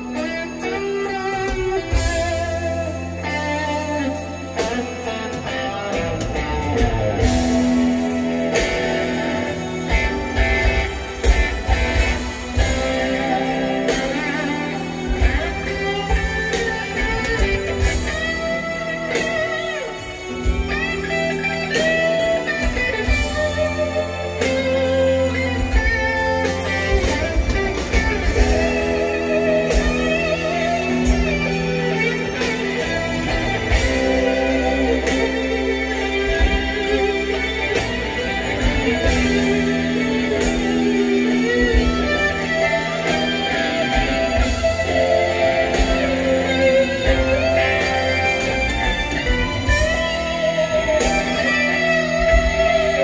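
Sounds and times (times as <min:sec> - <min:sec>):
bass: 0:00.0 - 0:53.0
drums: 0:00.0 - 0:53.0
electric guitar solo: 0:00.0 - 0:53.0.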